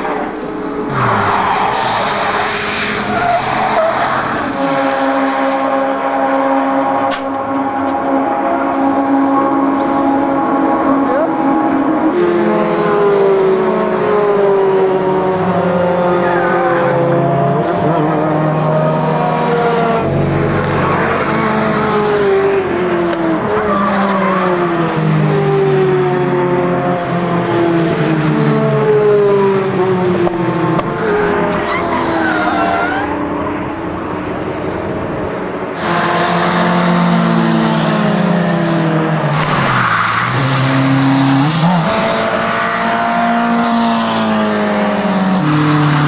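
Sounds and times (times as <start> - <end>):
racing car engines: 0.0 - 46.0.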